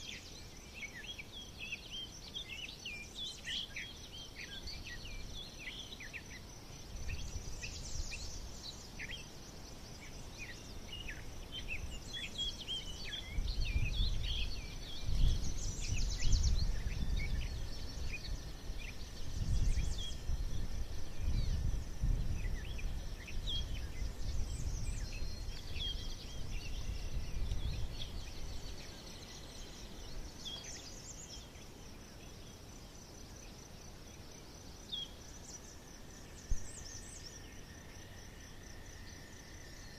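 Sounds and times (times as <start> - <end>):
birds chirping and singing: 0.0 - 37.6
high insect drone: 0.0 - 39.9.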